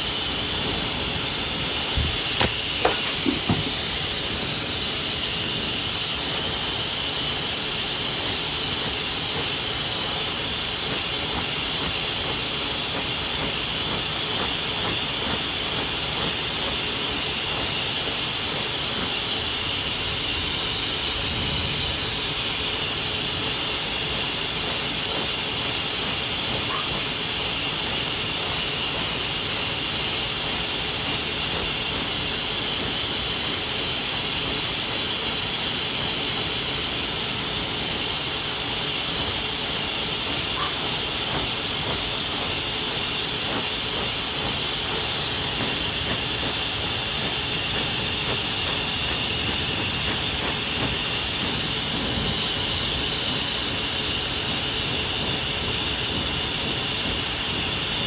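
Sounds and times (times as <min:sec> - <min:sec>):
pet blow dryer running: 0:00.0 - 0:58.0.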